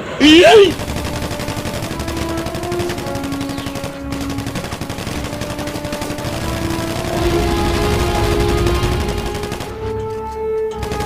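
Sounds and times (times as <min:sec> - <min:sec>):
automatic rifle gunfire: 0:00.2 - 0:10.0, 0:10.8 - 0:11.0
background music with held notes: 0:00.8 - 0:11.0.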